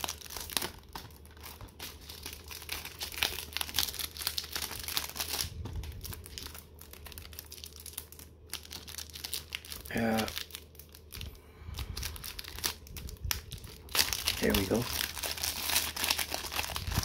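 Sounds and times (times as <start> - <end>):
plastic wrap crinkling: 0.0 - 17.0.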